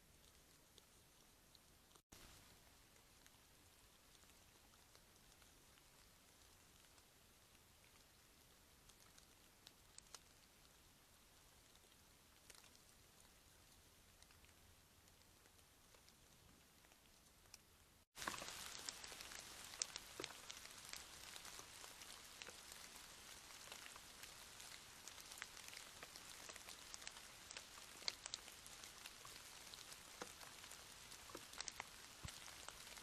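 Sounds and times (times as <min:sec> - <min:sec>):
steady rain falling: 0:00.0 - 0:33.0
raindrops ticking on a surface: 0:00.1 - 0:33.0.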